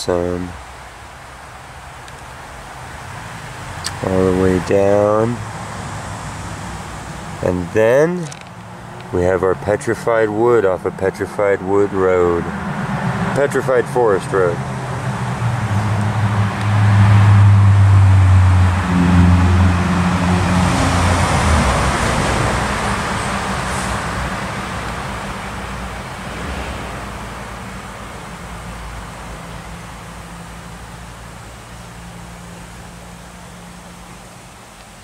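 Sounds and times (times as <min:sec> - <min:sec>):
tire hiss: 0:00.0 - 0:35.0
vehicle engine drone: 0:00.0 - 0:35.0.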